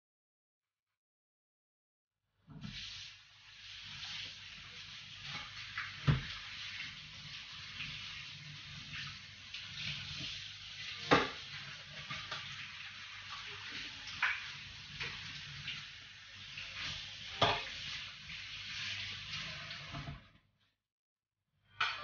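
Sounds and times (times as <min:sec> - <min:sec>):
tap water running into sink: 0:02.5 - 0:20.3.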